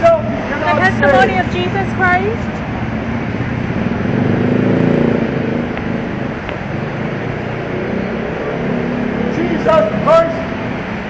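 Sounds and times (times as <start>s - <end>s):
steady traffic noise: 0.0s - 11.0s
vehicle engine passing: 0.0s - 11.0s.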